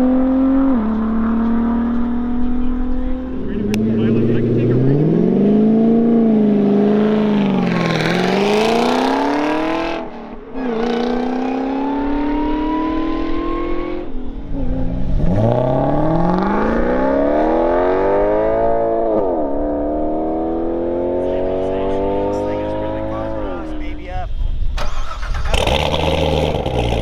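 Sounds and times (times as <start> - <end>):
car engine accelerating hard: 0.0 - 24.0, 24.8 - 27.0.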